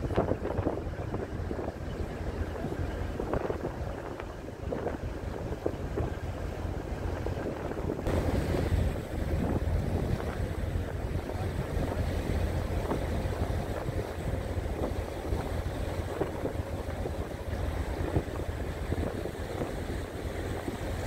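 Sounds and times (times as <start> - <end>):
boat engines rumbling: 0.0 - 21.0
water splashing: 0.0 - 21.0
wind buffeting microphone: 0.0 - 21.0.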